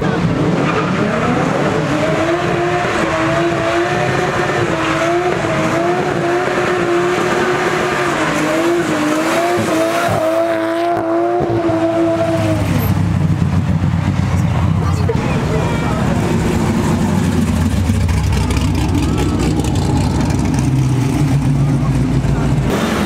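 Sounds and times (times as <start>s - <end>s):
car engine revving high: 0.1s - 13.8s, 15.0s - 23.0s.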